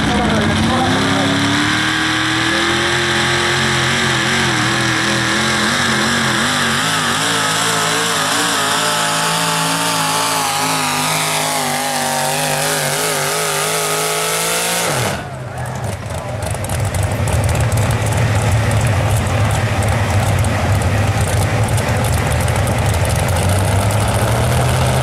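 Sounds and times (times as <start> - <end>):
pickup engine at full throttle: 0.0 - 25.0.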